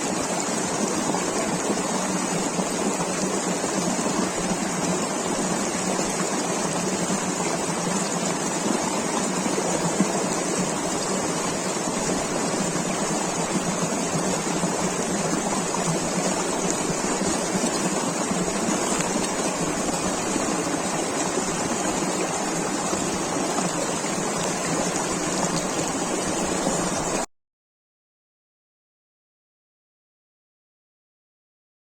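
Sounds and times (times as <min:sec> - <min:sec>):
river water rushing: 0:00.0 - 0:27.2.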